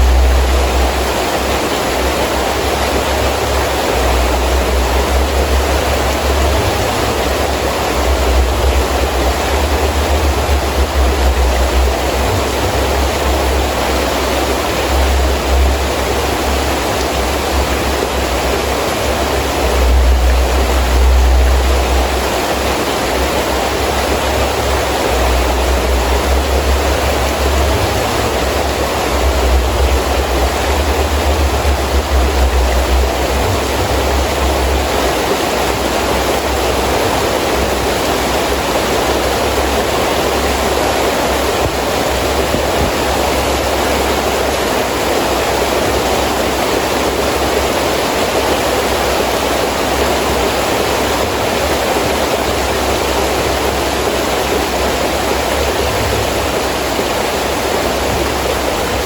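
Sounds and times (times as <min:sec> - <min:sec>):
wind gusts rumbling: 0:00.0 - 0:47.6
heavy rain falling: 0:00.0 - 0:59.0.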